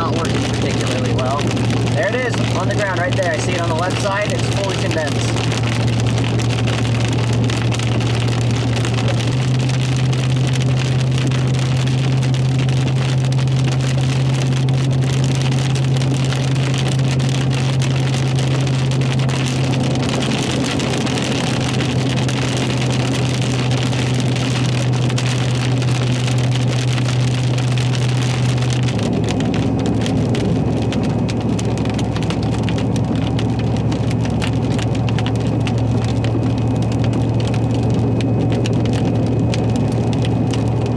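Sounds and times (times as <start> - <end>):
car engine and road drone: 0.0 - 40.9
heavy rain pounding on car: 0.0 - 40.9.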